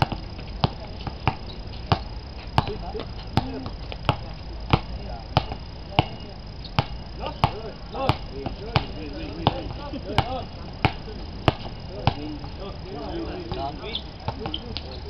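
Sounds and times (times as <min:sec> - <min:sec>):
basketball bouncing on hard court: 0:00.0 - 0:12.6
faint voices: 0:00.0 - 0:15.0.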